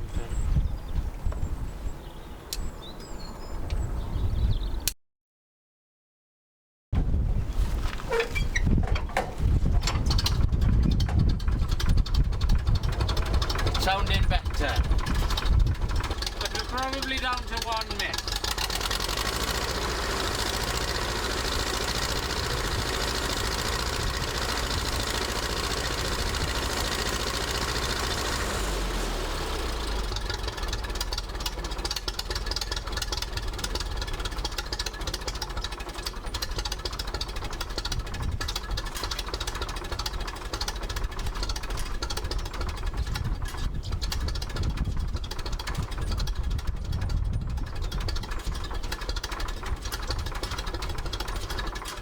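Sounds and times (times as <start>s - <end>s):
tractor engine idling: 8.1s - 52.0s.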